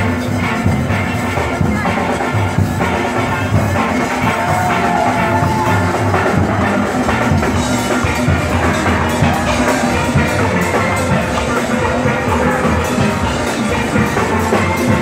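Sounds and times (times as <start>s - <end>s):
percussion steady beat: 0.0s - 15.0s.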